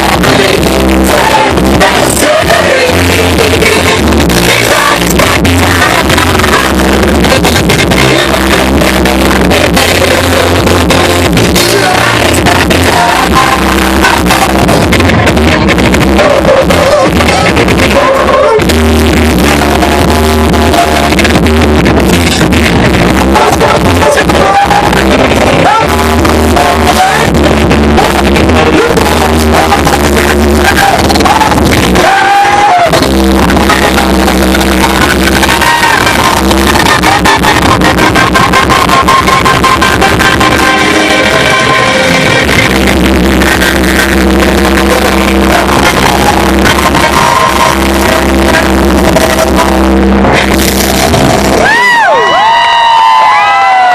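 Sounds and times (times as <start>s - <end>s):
distorted live rock band: 0.0s - 53.9s
heavy bass: 0.0s - 53.9s
person singing: 0.0s - 53.9s.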